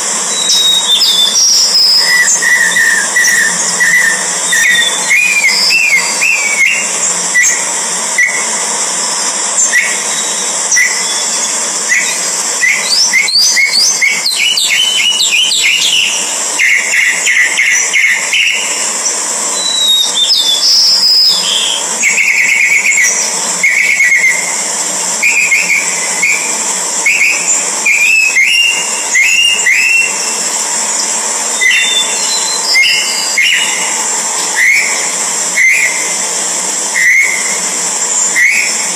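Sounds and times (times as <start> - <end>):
steady high hiss: 0.0 - 38.9
birds chirping: 0.1 - 8.7, 9.6 - 36.3.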